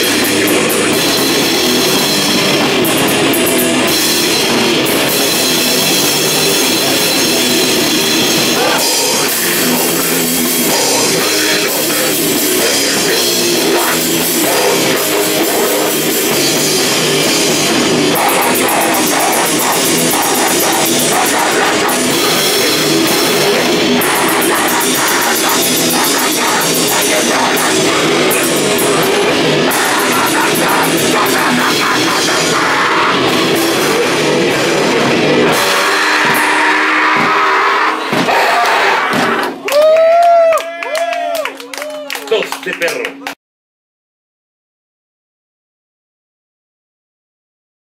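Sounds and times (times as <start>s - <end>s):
heavy band playing live: 0.0s - 40.4s
very fast drumming: 0.0s - 41.1s.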